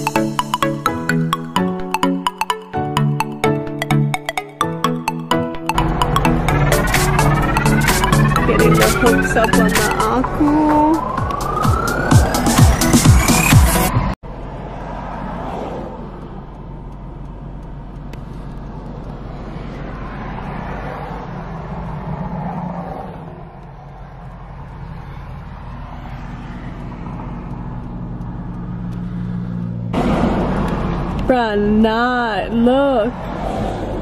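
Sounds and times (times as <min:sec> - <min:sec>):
car engine hum: 0:00.0 - 0:34.0
road noise rush: 0:00.0 - 0:34.0.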